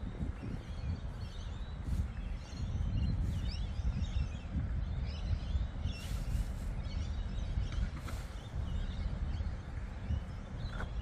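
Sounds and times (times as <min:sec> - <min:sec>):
constant low rumble: 0:00.0 - 0:11.0
small birds chirping: 0:00.0 - 0:11.0.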